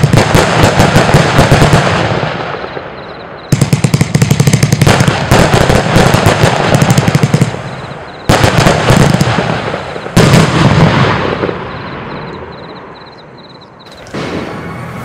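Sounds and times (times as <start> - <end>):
fireworks rapid volley: 0.0 - 12.4, 13.9 - 15.0
loud firework bangs: 0.0 - 13.1, 13.9 - 15.0.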